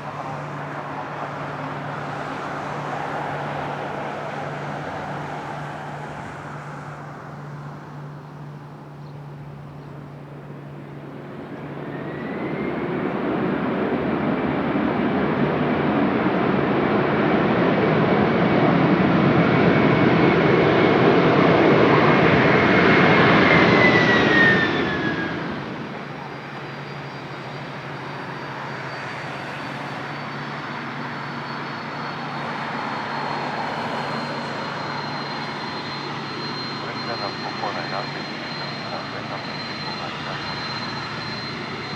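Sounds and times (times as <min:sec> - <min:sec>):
jet airliner engines whining: 0:00.0 - 0:41.9.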